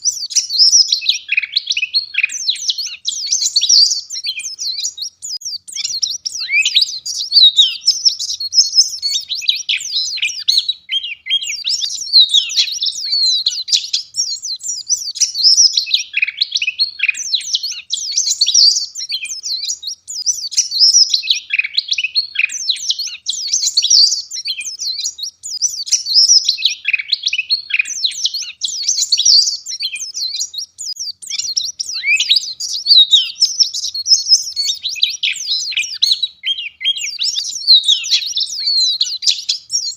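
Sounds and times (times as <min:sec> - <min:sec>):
bird twittering warble: 0:00.0 - 0:39.9.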